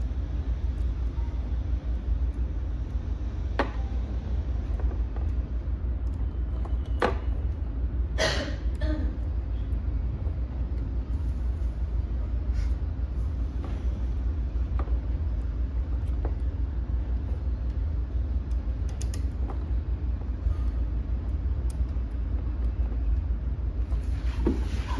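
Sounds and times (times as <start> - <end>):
steady low hum: 0.0 - 24.9
wires clicking and rustling: 0.0 - 24.9.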